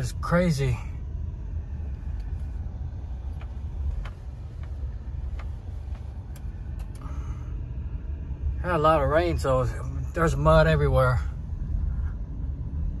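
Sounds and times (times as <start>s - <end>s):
tyres and engine rumbling: 0.0s - 13.0s.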